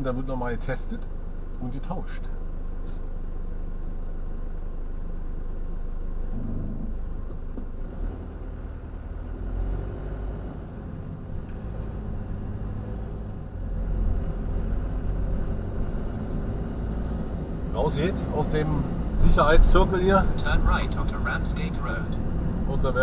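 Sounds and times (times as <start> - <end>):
van engine and road rumble: 0.0 - 23.0.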